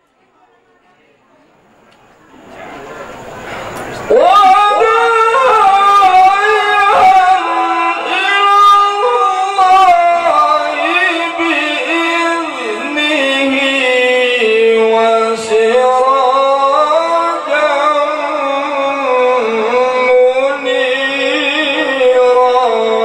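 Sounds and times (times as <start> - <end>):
man chanting melodically: 4.0 - 23.0.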